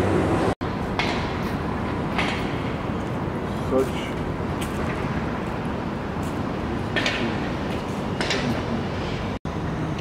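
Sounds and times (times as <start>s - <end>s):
outdoor street background noise: 0.0s - 10.0s.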